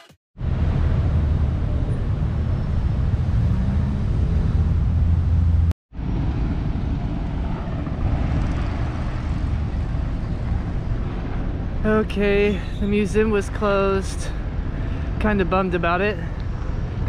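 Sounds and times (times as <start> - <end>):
low outdoor rumble: 0.4 - 17.0.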